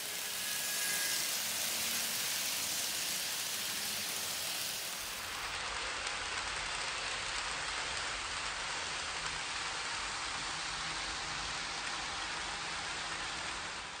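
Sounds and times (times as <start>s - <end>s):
model train wheels rolling: 0.0s - 14.0s.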